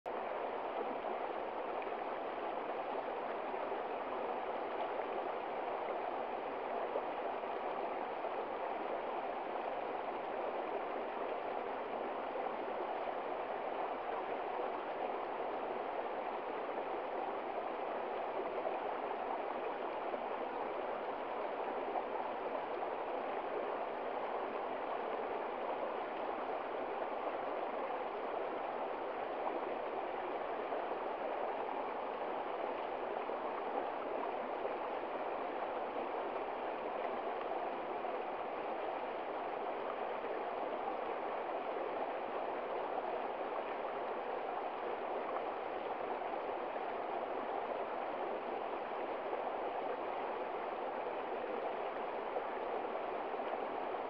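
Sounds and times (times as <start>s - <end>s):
stream babbling over stones: 0.1s - 54.0s.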